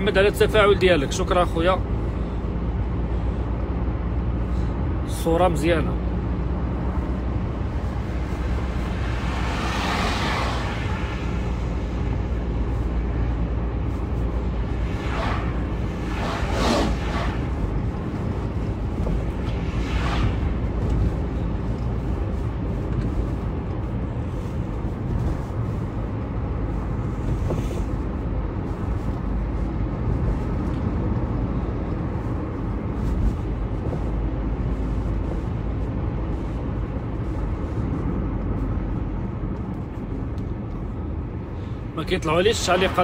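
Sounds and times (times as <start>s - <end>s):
car road and engine noise: 0.0s - 43.0s.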